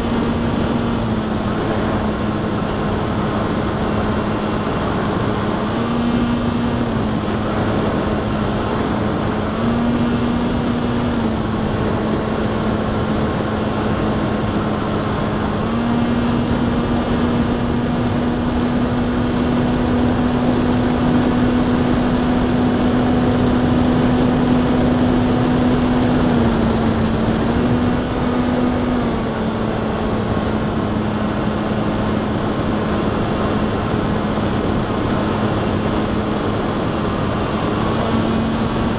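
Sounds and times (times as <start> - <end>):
model aircraft motor drone: 0.0 - 38.9.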